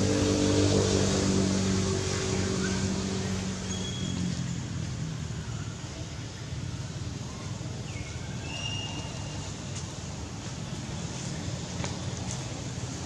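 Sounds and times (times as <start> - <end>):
steady outdoor hiss: 0.0 - 13.0
vehicle engine hum: 0.0 - 13.0.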